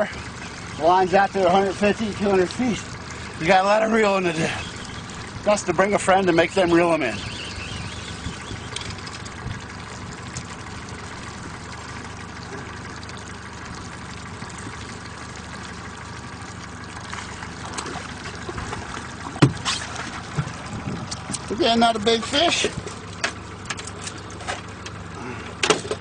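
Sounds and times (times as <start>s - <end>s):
boat motor running: 0.0s - 26.0s
water trickling against hull: 0.0s - 26.0s.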